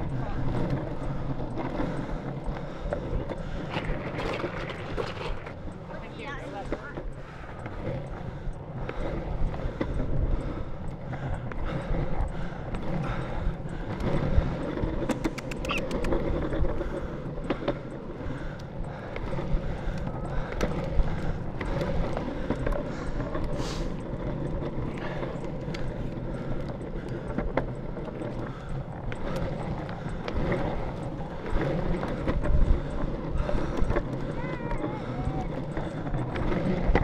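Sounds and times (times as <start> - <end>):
skateboard wheels rolling on pavement: 0.0 - 37.0
sharp wheel clicks: 3.9 - 37.0.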